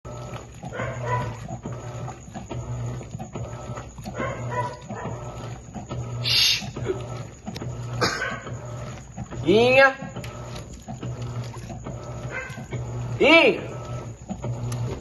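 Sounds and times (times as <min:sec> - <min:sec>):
washing machine motor humming: 0:00.0 - 0:15.0
water churning in tub: 0:00.0 - 0:15.0.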